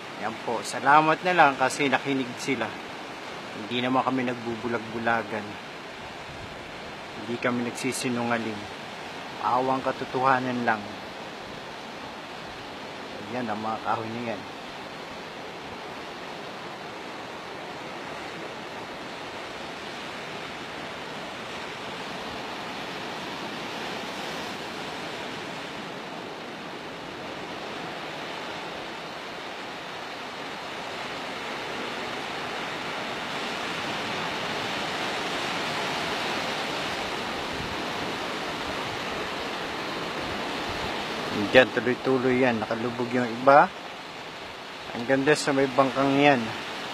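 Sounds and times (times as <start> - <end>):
sea surf on the shore: 0.0 - 46.9.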